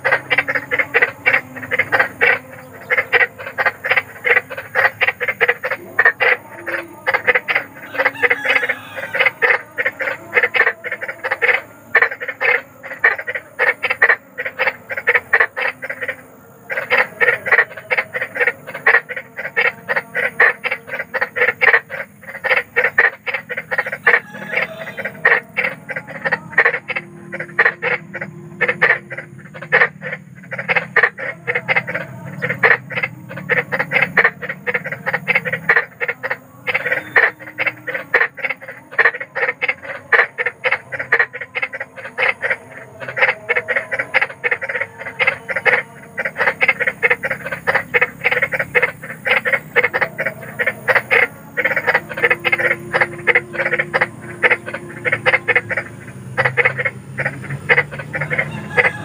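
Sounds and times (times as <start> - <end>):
frogs croaking: 0.0 - 59.0.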